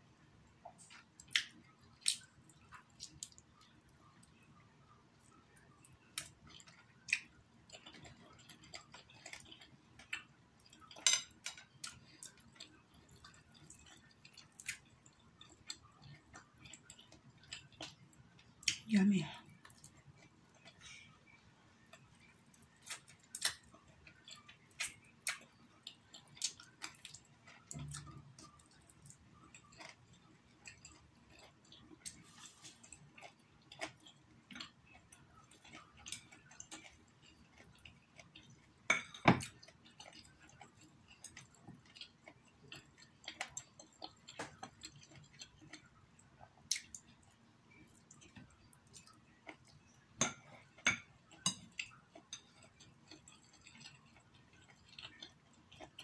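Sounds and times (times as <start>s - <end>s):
chewing and mouth smacks: 0.6s - 4.4s, 5.2s - 18.9s, 19.5s - 56.0s.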